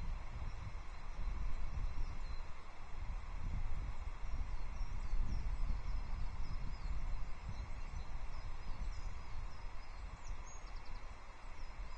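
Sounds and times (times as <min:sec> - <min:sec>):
wind buffeting microphone: 0:00.0 - 0:11.9
songbirds chirping: 0:00.1 - 0:11.9.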